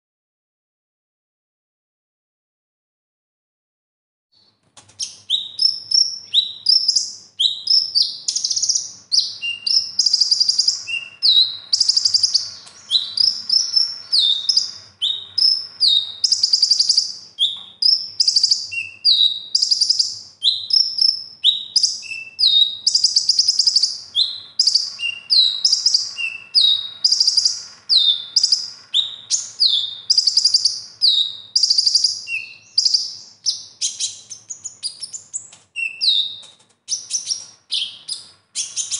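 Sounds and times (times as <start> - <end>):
sunbird singing high chirps: 5.0 - 38.9.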